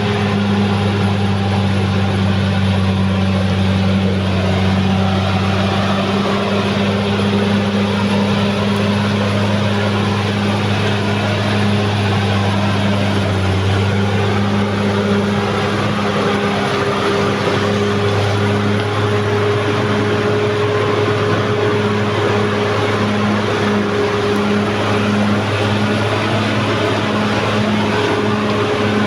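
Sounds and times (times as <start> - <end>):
diesel engine low drone: 0.0 - 29.0.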